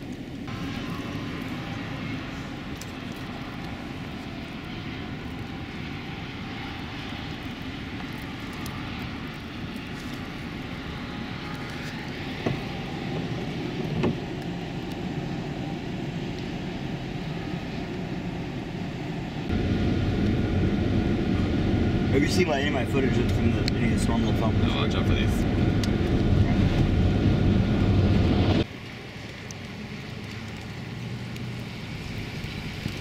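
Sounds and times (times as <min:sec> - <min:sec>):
vehicle driving rumble: 0:00.0 - 0:33.0.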